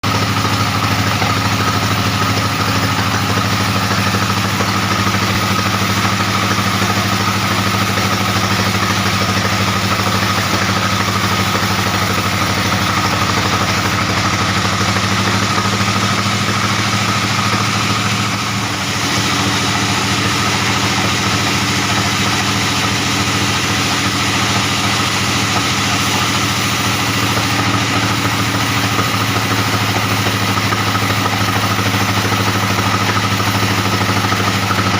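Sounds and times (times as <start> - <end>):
sawmill engine drone: 0.0 - 34.9.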